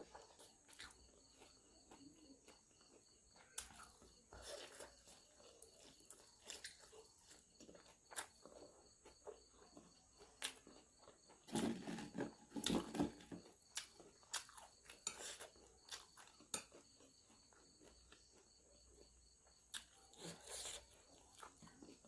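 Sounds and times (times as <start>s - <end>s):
chewing and mouth smacks: 0.0s - 11.4s, 12.6s - 22.0s.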